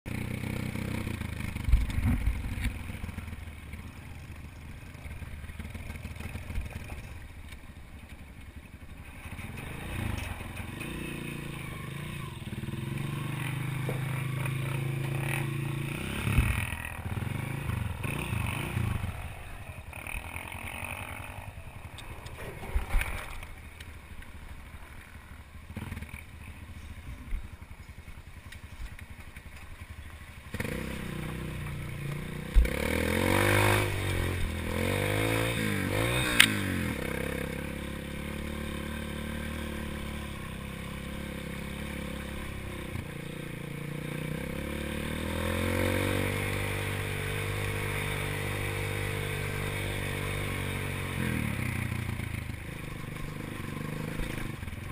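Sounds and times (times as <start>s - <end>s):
dirt bike engine revving: 0.1s - 4.0s, 8.9s - 23.5s, 24.9s - 26.8s, 29.4s - 54.9s.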